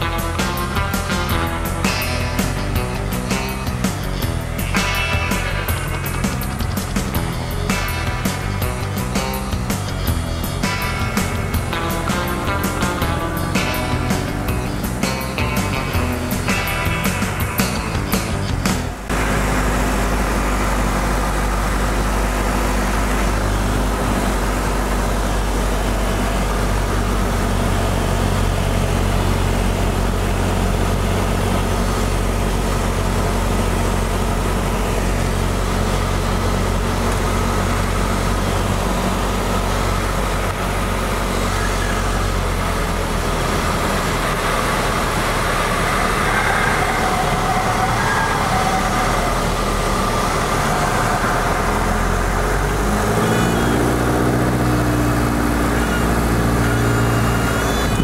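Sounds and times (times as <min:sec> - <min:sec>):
airplane engine droning: 0:00.0 - 0:58.0.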